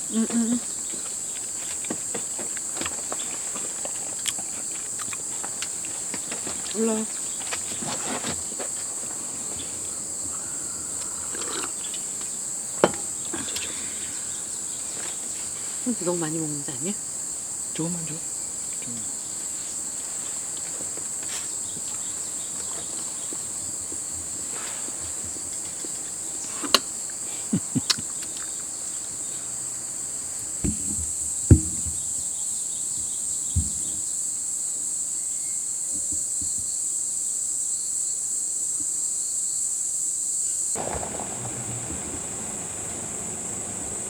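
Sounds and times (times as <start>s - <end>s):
insects chirping: 0.0s - 44.0s.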